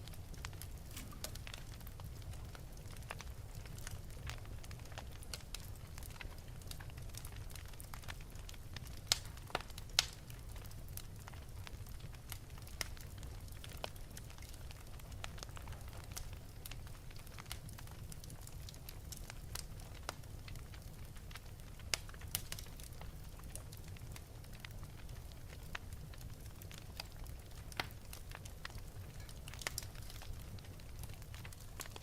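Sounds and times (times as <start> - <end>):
fire crackling and popping: 0.0 - 32.0
low fire rumble: 0.0 - 32.0.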